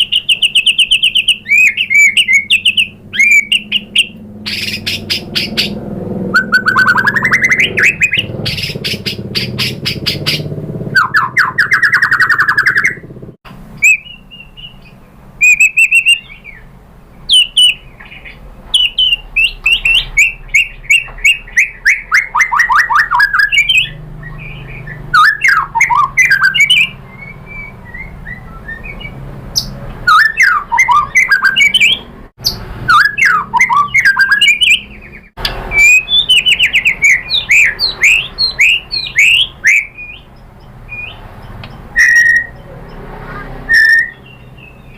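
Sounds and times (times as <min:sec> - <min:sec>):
bird song: 0:00.0 - 0:44.9.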